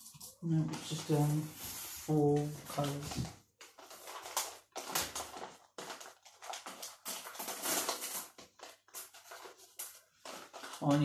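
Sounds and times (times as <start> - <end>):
sweets rattling in a packet: 0.0 - 11.0.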